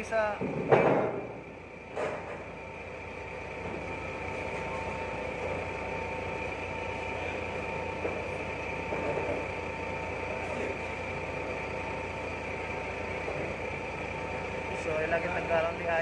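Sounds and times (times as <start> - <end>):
forklift engine idling: 0.0 - 16.0.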